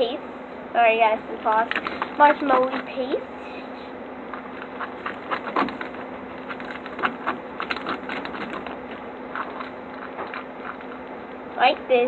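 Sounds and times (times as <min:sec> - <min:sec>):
slime squishing while mixed: 0:00.6 - 0:12.0.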